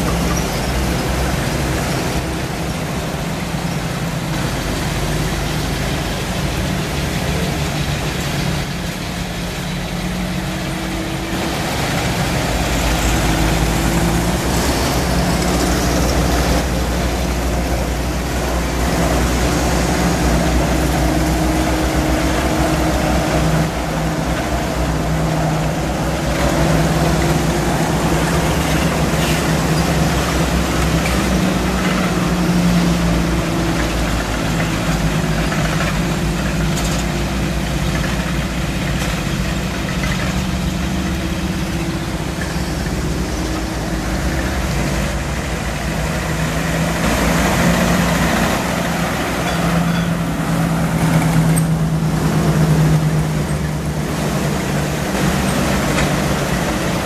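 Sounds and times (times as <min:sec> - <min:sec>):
military vehicles rumbling past: 0:00.0 - 0:57.0.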